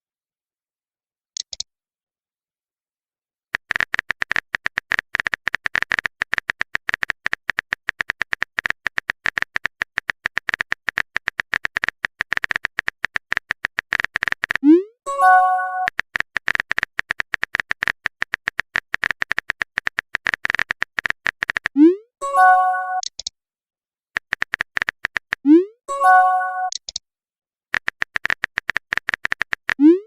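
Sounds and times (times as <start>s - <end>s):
keyboard typing clicks: 1.4s - 1.7s, 3.6s - 23.3s, 24.2s - 27.0s, 27.7s - 30.0s.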